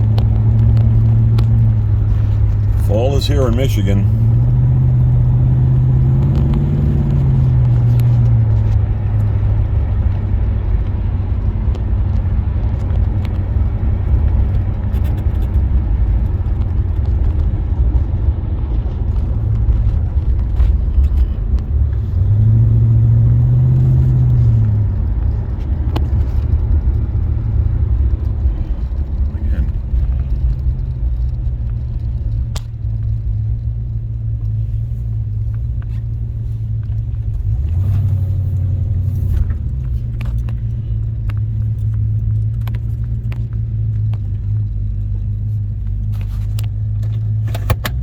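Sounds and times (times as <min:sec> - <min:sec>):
car engine running: 0:00.0 - 0:48.0
road noise rumble: 0:00.0 - 0:48.0.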